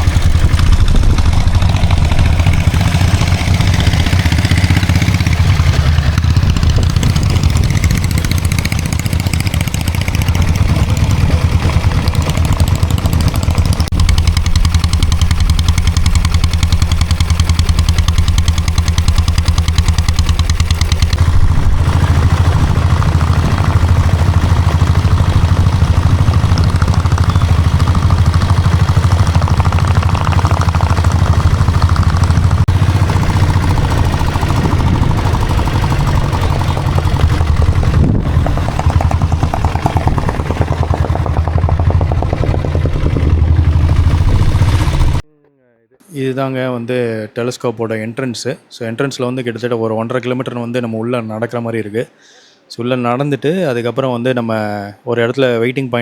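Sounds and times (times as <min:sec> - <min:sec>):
diesel engine clattering: 0:00.0 - 0:45.2.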